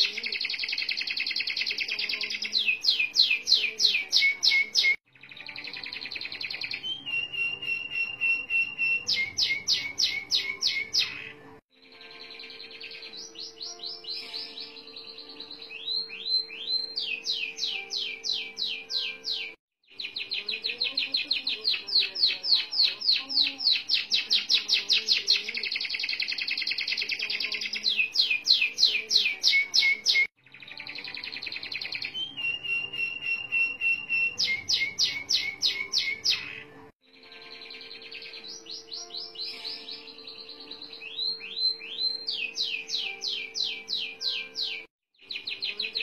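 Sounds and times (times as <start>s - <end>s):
canary singing trills: 0.0s - 46.0s.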